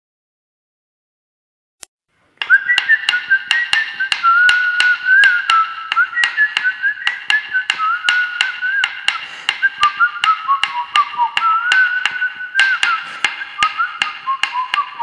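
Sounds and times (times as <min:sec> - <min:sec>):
beat of sharp clicks: 0:01.8 - 0:15.0
whistled tune: 0:02.4 - 0:15.0.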